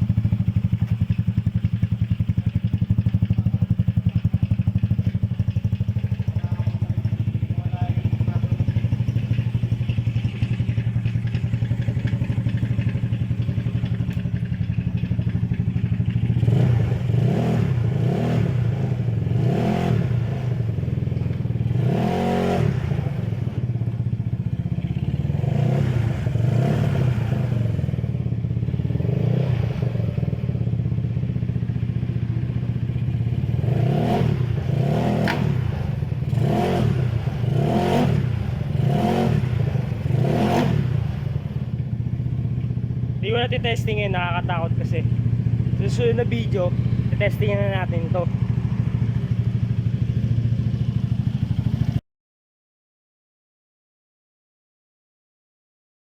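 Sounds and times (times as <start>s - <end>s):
scooter engine idling and revving: 0.0s - 52.0s.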